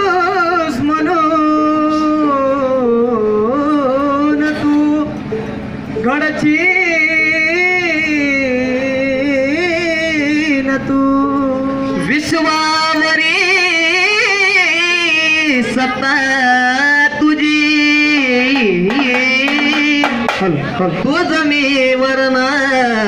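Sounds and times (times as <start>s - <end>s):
man singing wordless notes: 0.0s - 23.0s.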